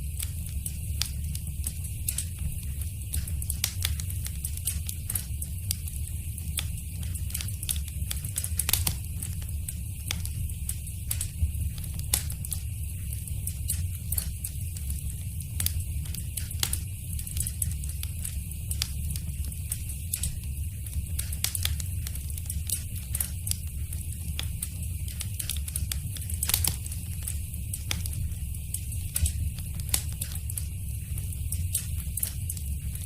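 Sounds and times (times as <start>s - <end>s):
low fire rumble: 0.0s - 33.0s
wood fire crackling and popping: 0.0s - 33.0s.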